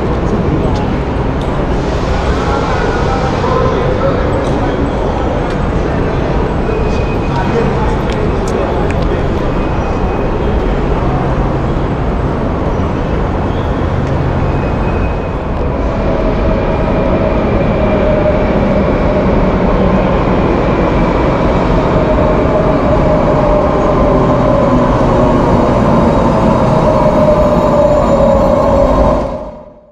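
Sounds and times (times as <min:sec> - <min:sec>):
electric train rumbling: 0:00.0 - 0:29.9
train whine: 0:00.0 - 0:29.9.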